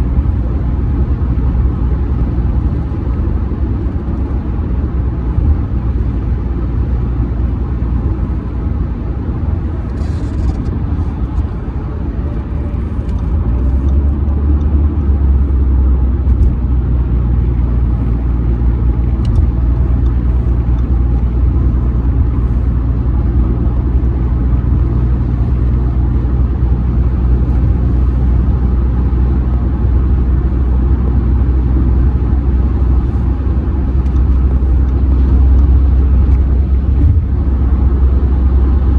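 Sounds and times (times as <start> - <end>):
car driving at highway speed: 0.0 - 38.9.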